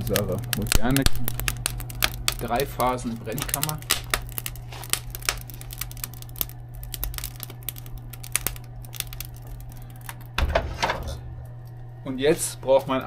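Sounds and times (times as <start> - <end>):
furnace blower humming: 0.0 - 13.0
wood fire crackling: 0.0 - 13.0.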